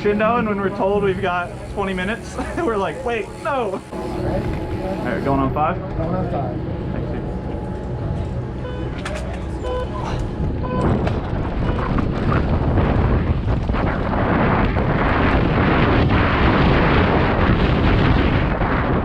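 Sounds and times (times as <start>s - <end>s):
bike tyre and trail noise: 0.0s - 19.0s
wind rushing over microphone: 0.0s - 19.0s.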